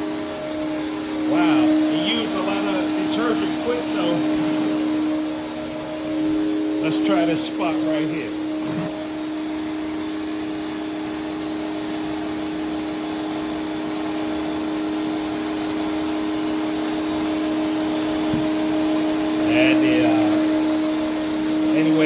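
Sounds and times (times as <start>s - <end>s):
pressure washer motor hum: 0.0s - 22.0s.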